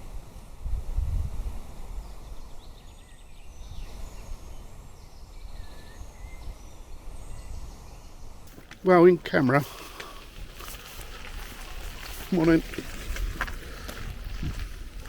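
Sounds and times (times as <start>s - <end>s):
wind buffeting microphone: 0.0s - 15.0s
small birds chirping: 2.0s - 15.0s.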